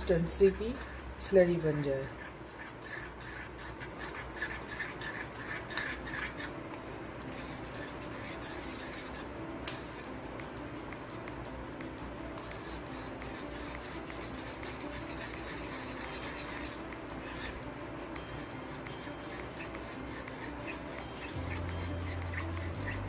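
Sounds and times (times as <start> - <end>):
utensil clinking and scraping bowl: 0.0 - 10.2, 12.4 - 23.0.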